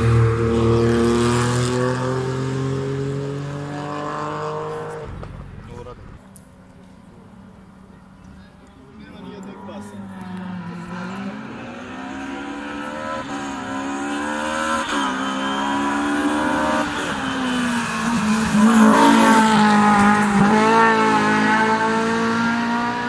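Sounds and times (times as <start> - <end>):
race car engine passing: 0.0 - 5.9, 8.9 - 23.0.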